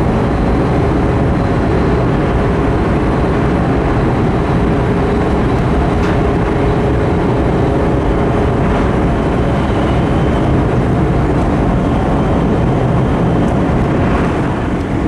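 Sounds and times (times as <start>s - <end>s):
high-speed train cabin rushing noise: 0.0s - 15.0s.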